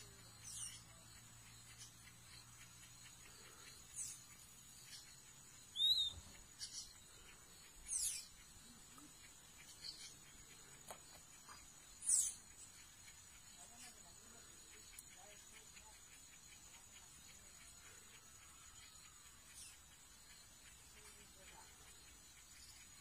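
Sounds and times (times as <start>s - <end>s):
faint high insect whine: 0.0s - 23.0s
high-pitched bird calls: 0.0s - 23.0s.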